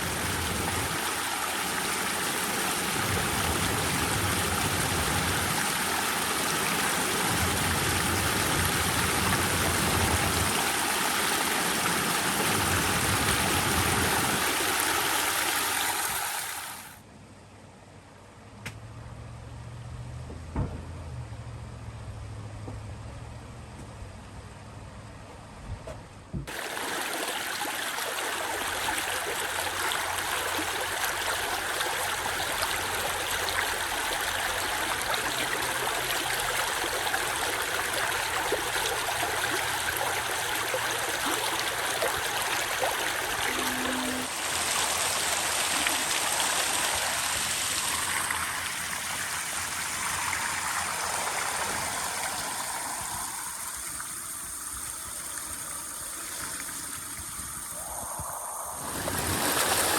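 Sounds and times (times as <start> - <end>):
stream running water: 0.0 - 17.1, 26.5 - 59.9.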